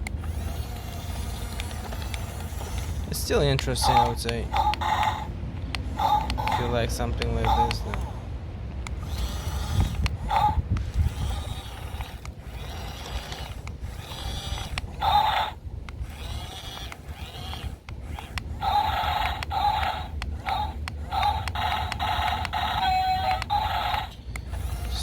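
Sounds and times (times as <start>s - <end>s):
toy motor and gears whirring: 0.0s - 8.2s, 8.8s - 25.0s.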